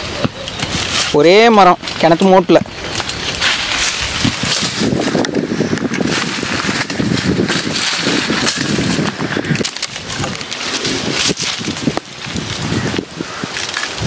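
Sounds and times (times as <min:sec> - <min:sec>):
dry leaves rustling: 0:00.0 - 0:14.0
wind buffeting microphone: 0:00.0 - 0:14.0.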